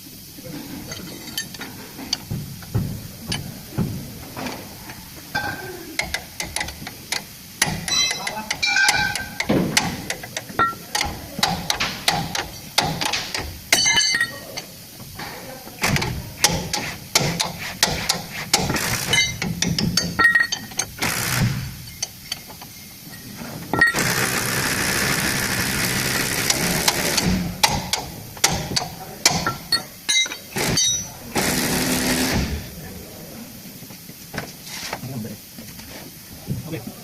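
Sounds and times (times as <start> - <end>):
loud steady mechanical noise: 0.0 - 37.0.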